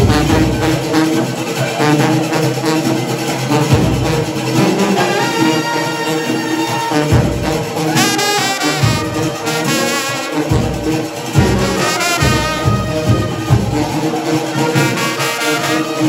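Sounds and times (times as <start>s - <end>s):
brass section playing: 0.0s - 16.0s
low brass bass notes: 0.0s - 16.0s.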